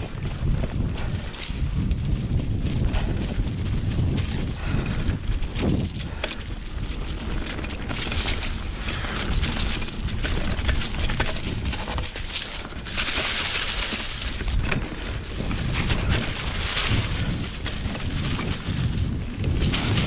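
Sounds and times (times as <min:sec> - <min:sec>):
bike rattling over bumps: 0:00.0 - 0:20.0
bike tyres crunching leaves: 0:00.0 - 0:20.0
wind buffeting microphone: 0:00.0 - 0:20.0.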